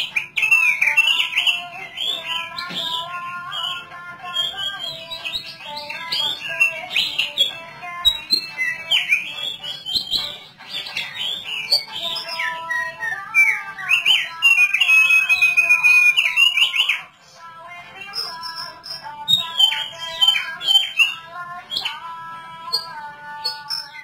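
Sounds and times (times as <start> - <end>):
bird singing chirps and whistles: 0.0 - 17.2, 18.0 - 24.0.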